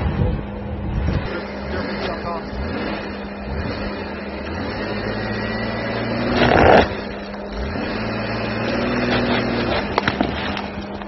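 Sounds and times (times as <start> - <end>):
car engine running under load: 0.0 - 11.0.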